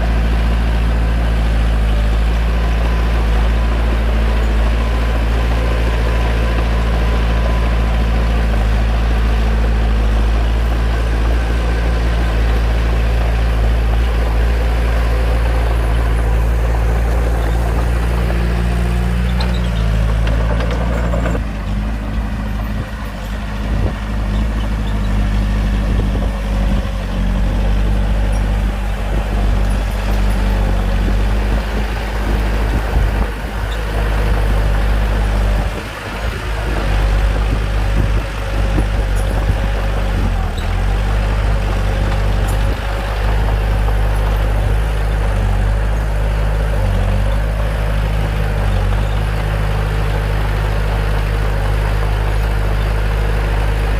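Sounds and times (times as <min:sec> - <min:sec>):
bulldozer diesel engine: 0:00.0 - 0:53.9.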